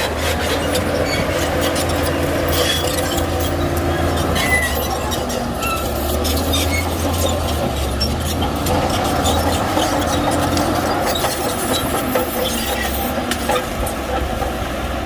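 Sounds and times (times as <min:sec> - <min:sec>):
steel tracks squealing: 0:00.0 - 0:14.6
bulldozer diesel engine running: 0:00.0 - 0:15.0.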